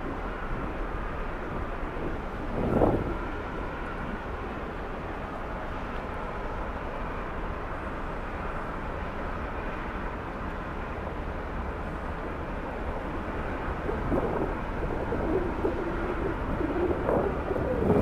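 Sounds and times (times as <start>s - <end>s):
ship engine drone: 0.0s - 18.0s.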